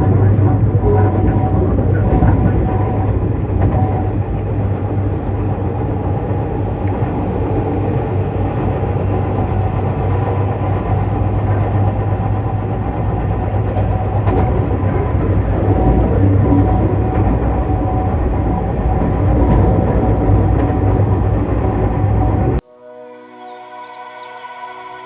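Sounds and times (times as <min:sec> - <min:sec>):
electric train running at speed: 0:00.0 - 0:25.0.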